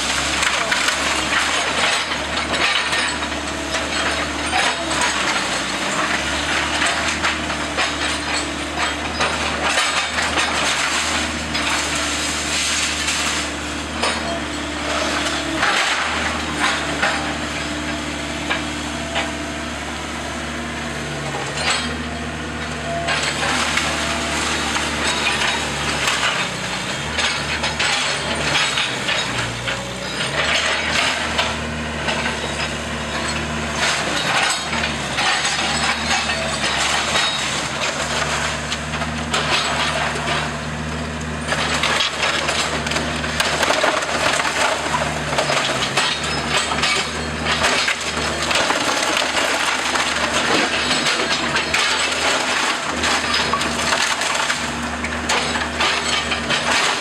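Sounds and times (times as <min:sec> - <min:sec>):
engine hum: 0:00.0 - 0:57.0
wood cracking and crunching: 0:00.0 - 0:57.0.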